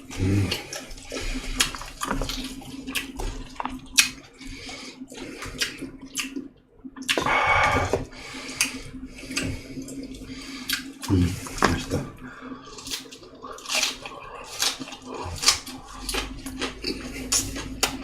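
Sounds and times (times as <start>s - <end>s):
person chewing wetly: 0.0s - 18.0s.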